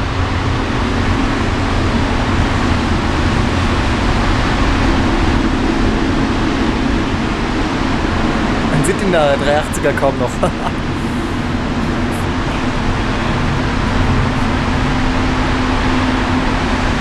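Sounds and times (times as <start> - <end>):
jet airliner passing: 0.4 - 17.0.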